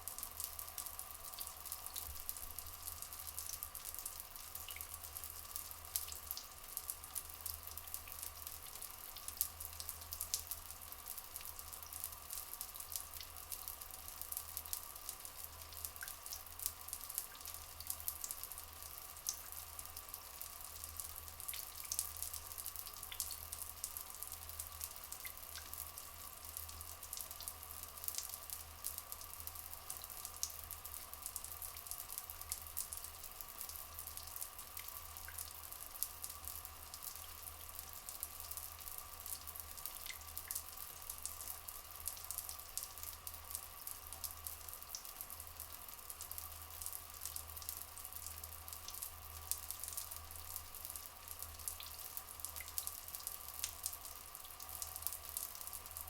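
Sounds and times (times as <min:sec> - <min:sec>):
crackly dripping: 0:00.0 - 0:56.0.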